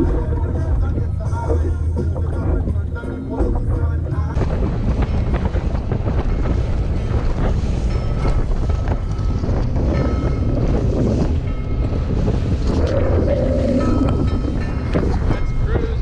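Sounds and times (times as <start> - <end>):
low engine rumble: 0.0 - 16.0
water rushing along hull: 0.0 - 16.0
wind buffeting microphone: 0.0 - 16.0.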